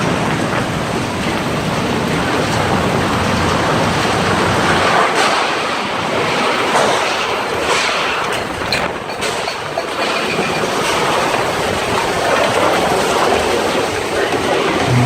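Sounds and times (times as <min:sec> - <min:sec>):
tornado winds roaring: 0:00.0 - 0:15.0
wind buffeting microphone: 0:00.0 - 0:15.0.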